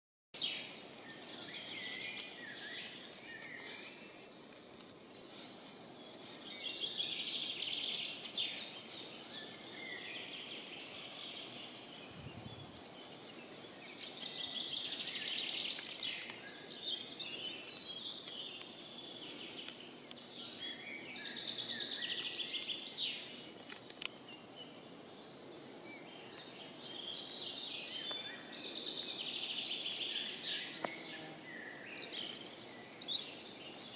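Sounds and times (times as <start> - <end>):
songbirds twittering: 0.4 - 33.9.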